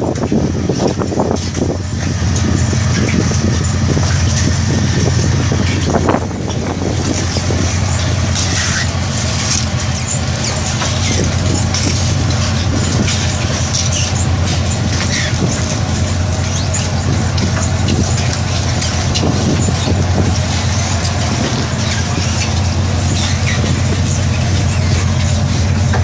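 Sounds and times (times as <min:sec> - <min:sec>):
low drone of ship engines: 0:00.0 - 0:26.0.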